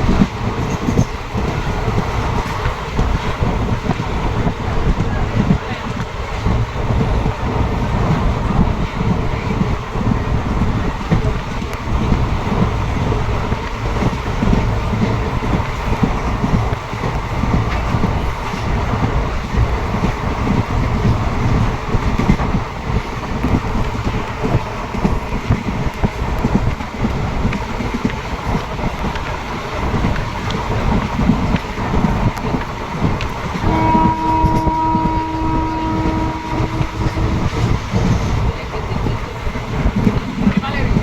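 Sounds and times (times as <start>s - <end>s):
train rumbling: 0.0s - 41.0s
wheels clattering on rails: 0.0s - 41.0s.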